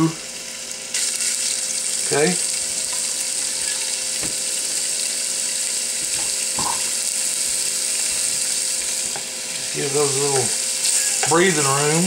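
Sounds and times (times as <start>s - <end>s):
steak sizzling in a frying pan: 0.0s - 12.0s.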